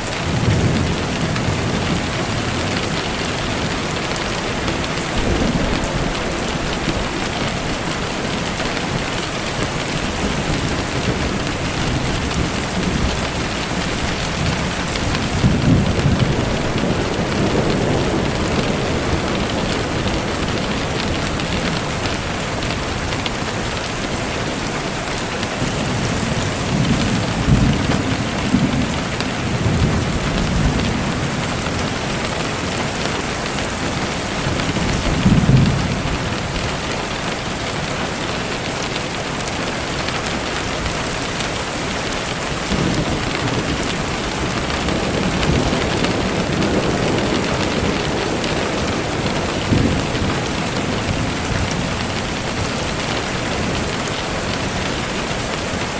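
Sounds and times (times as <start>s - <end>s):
rain falling on a surface: 0.0s - 55.9s
thunder rumbling: 0.0s - 55.9s.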